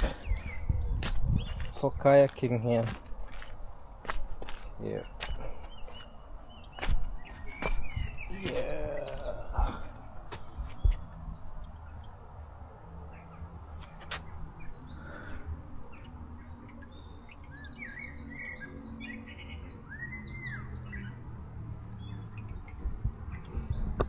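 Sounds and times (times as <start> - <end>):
small birds singing and calling: 0.0 - 24.0.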